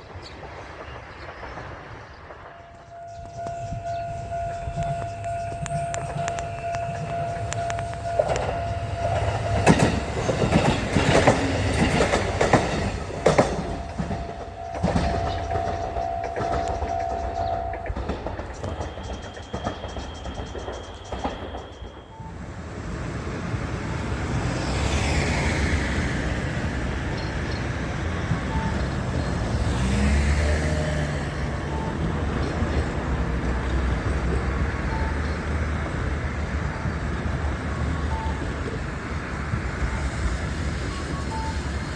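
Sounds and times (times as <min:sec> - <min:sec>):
train wheels clattering over rail joints: 0:00.0 - 0:41.9
passing street vehicles rumble: 0:02.2 - 0:41.9.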